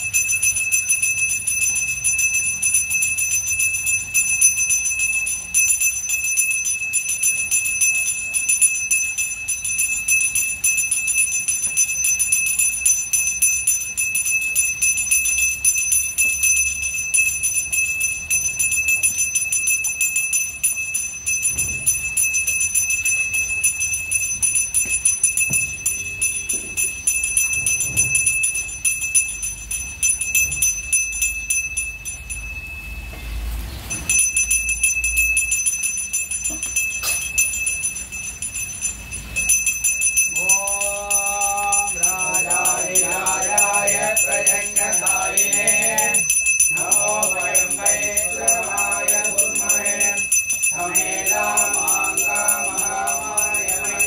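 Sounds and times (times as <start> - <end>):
bell ringing rapidly: 0.0 - 33.1, 33.9 - 54.0.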